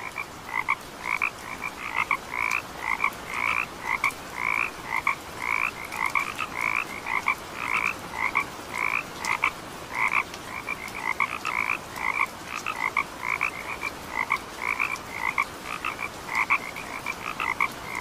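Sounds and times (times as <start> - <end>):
frogs croaking chorus: 0.0 - 18.0.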